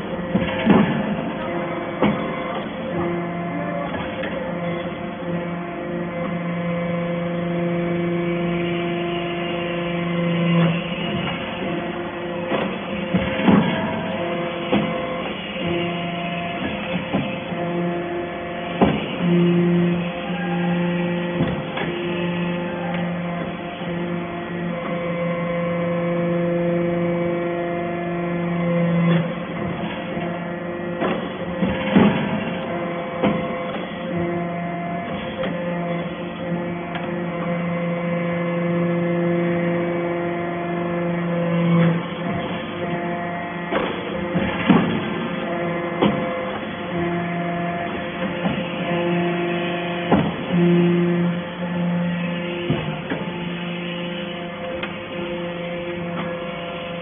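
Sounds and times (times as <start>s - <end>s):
hydraulic machinery humming: 0.0s - 57.0s.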